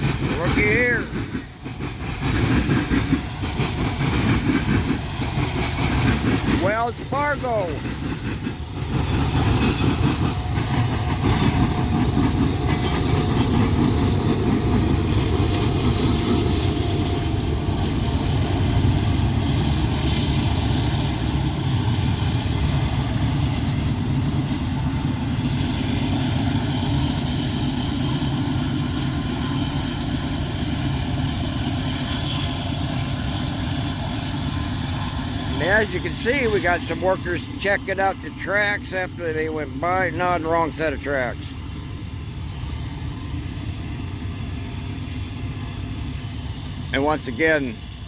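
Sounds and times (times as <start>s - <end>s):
freight train wheels clattering: 0.0s - 41.5s.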